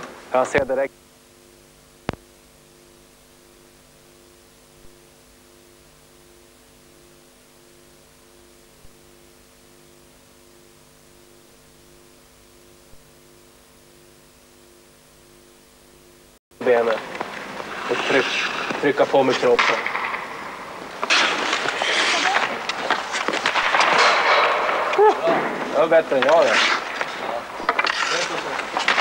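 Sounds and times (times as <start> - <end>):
electrical hum and hiss: 0.0 - 29.0.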